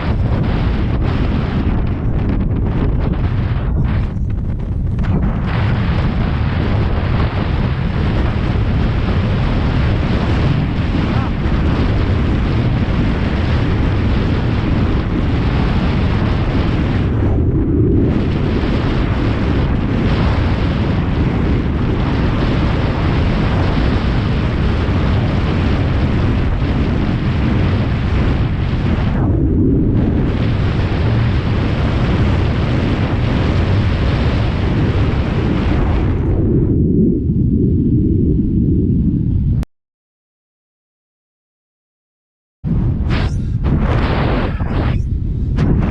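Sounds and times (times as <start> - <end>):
wind buffeting microphone: 0.0 - 39.6, 42.6 - 45.9.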